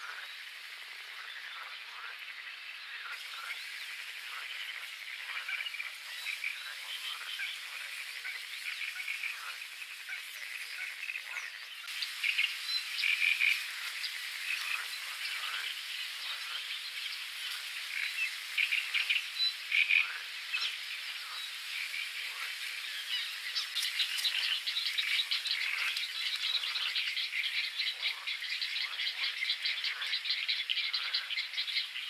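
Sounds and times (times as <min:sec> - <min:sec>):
frogs croaking: 0:00.0 - 0:32.0.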